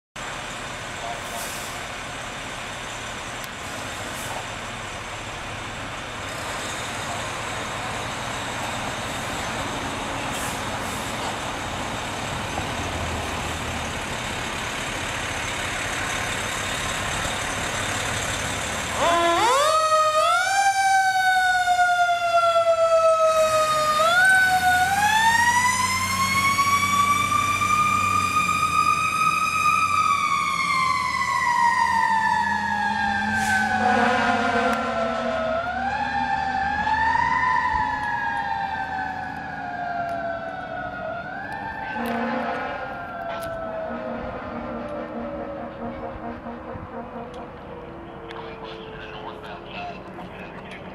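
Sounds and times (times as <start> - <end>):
diesel fire engine running: 0.2 - 50.9
fire engine siren wailing: 5.3 - 50.9.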